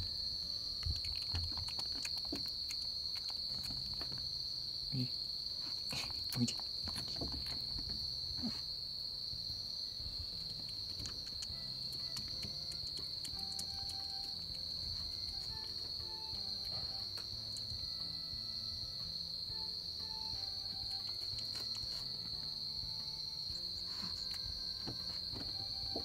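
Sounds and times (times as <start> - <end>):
high-pitched insect drone: 3.1 - 26.0.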